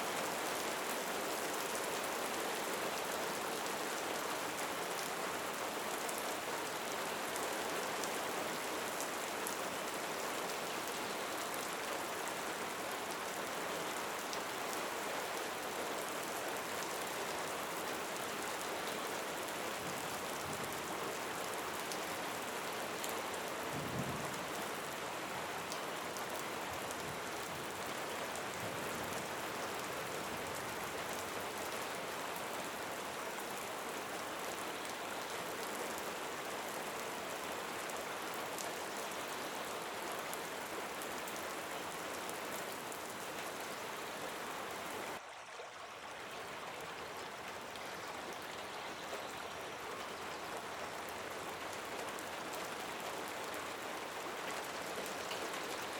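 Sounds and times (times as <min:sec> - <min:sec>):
rain falling: 0:00.0 - 0:45.2, 0:46.0 - 0:55.9.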